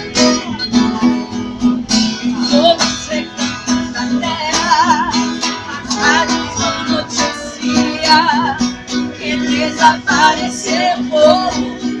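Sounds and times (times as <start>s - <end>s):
strummed viola and guitar: 0.0s - 12.0s
woman singing with vibrato: 2.3s - 12.0s.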